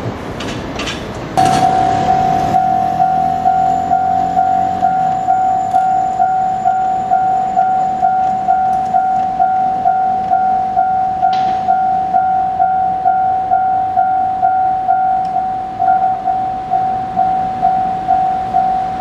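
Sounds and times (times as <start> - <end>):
level crossing warning bell: 1.4 - 19.0.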